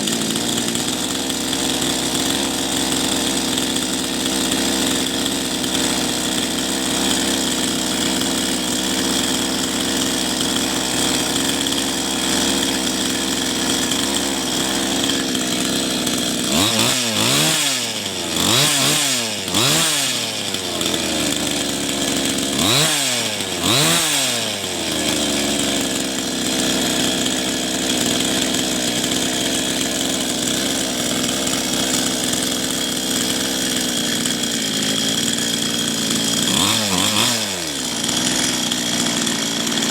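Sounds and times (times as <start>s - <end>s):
motorcycle engine revving: 1.2s - 39.9s.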